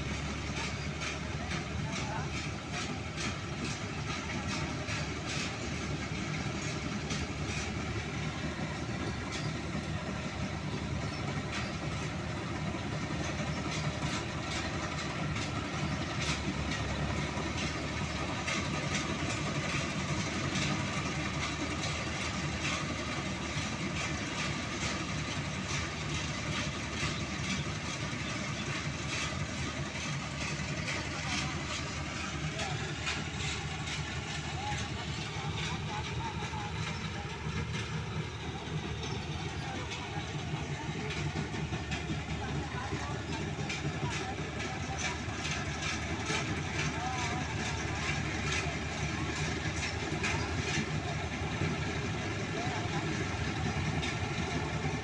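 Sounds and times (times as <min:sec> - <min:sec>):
combine harvester engine running: 0:00.0 - 0:55.0
continuous mechanical clatter: 0:00.0 - 0:55.0.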